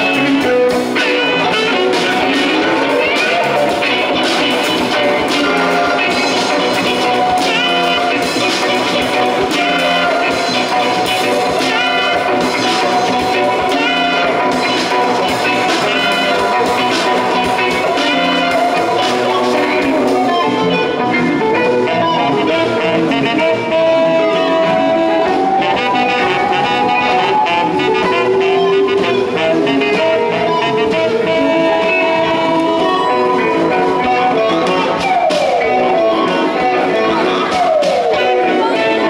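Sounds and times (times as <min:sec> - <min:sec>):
electric bass guitar: 0:00.0 - 0:39.0
keyboard: 0:00.0 - 0:39.0
saxophone: 0:00.0 - 0:39.0.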